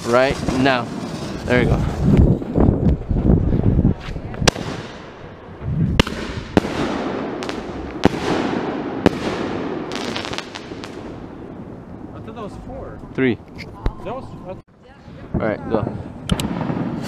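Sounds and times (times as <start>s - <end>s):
fireworks bangs crackling: 0.0s - 13.2s, 15.2s - 17.0s.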